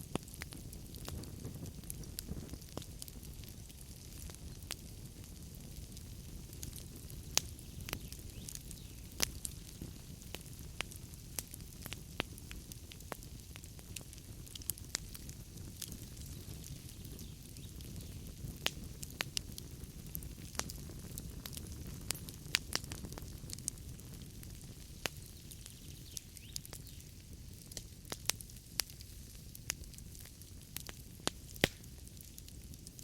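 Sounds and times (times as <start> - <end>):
logs popping and crackling: 0.0 - 33.0
low rumble of flames: 0.0 - 33.0.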